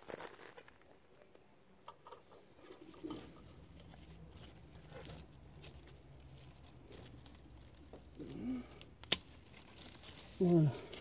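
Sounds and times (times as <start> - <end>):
faint rustling and handling: 0.0 - 11.0.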